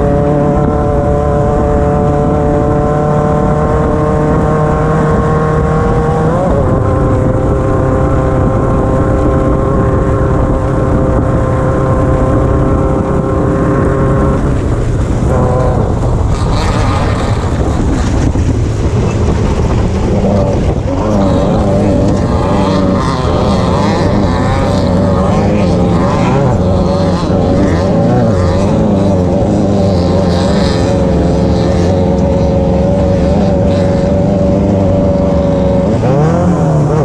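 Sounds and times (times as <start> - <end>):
race car engine at high load: 0.0 - 37.0.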